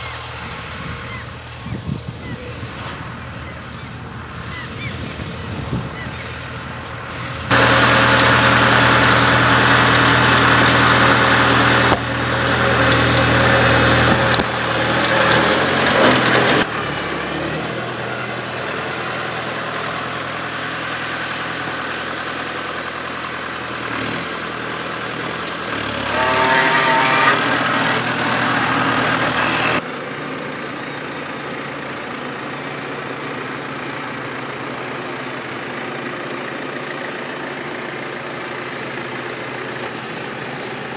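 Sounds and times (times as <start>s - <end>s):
tractor engines running: 0.0s - 40.9s.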